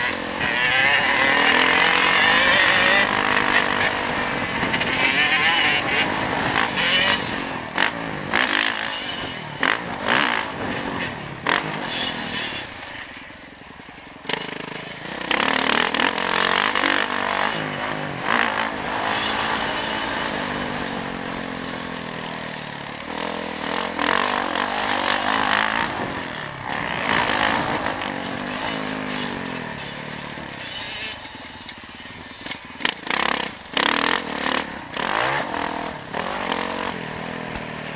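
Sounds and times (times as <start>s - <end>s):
dirt bike engine revving: 0.0s - 13.4s, 14.2s - 37.9s.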